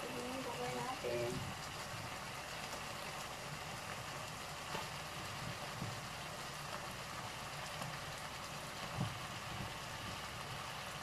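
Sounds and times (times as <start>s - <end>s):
sauce simmering and sizzling in a wok: 0.0s - 11.0s.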